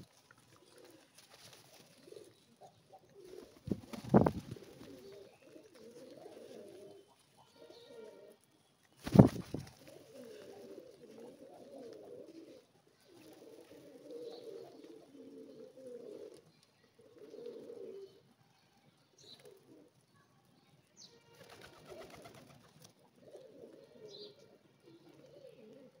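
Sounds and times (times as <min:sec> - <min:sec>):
pigeons cooing: 0:00.0 - 0:08.5, 0:09.1 - 0:18.3, 0:19.2 - 0:20.0, 0:21.5 - 0:26.0.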